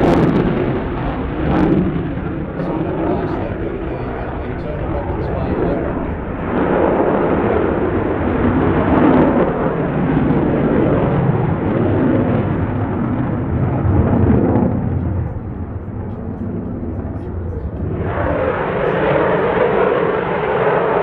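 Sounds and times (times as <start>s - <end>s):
jet fighter engine roar: 0.0s - 21.0s.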